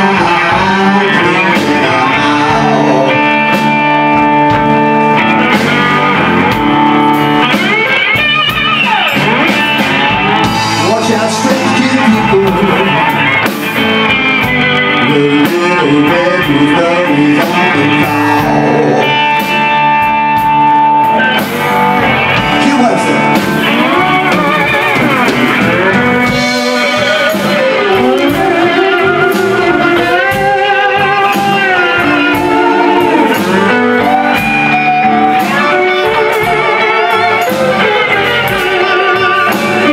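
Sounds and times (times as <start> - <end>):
blues band playing: 0.0 - 39.9
guitar bent notes: 0.0 - 39.9.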